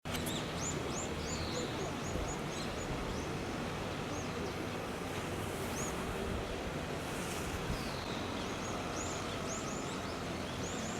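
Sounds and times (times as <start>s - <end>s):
steady outdoor noise: 0.0s - 10.9s.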